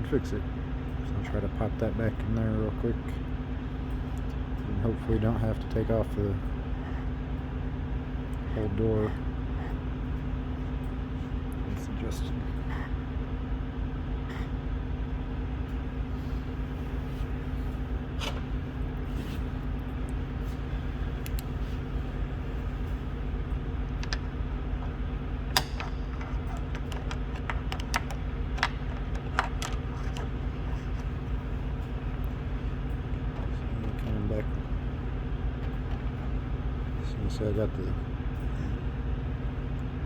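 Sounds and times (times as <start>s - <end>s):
low engine hum: 0.0s - 40.0s.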